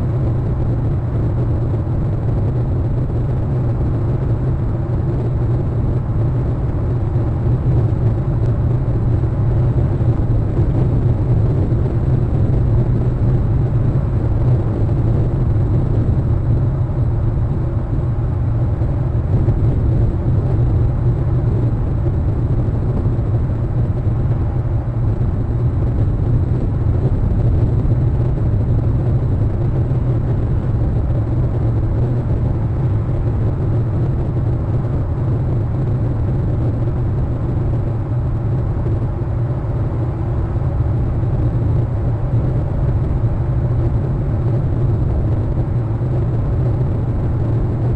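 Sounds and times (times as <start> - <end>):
low rumble: 0.0 - 47.9.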